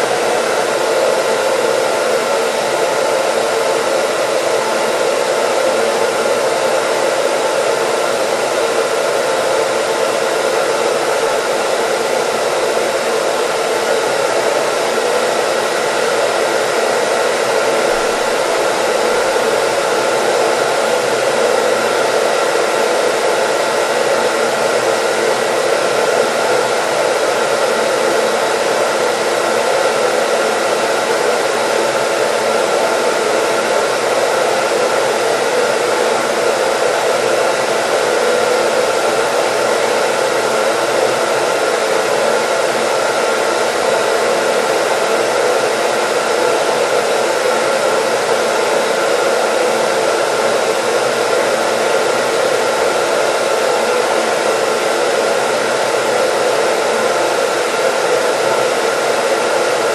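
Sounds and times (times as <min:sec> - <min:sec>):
hair dryer blowing air: 0:00.0 - 0:59.9.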